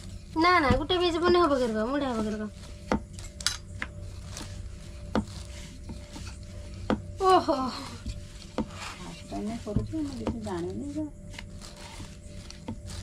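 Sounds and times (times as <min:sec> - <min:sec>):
rolling pin on board: 0:00.0 - 0:13.0.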